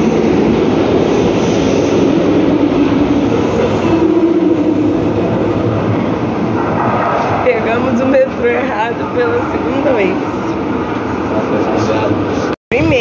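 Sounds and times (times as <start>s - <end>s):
metro train running: 0.0s - 13.0s.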